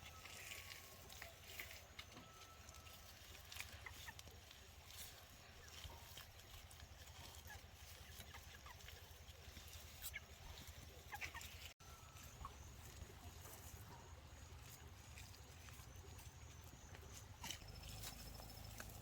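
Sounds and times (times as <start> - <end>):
poultry chirps and clucks: 0.0 - 19.0.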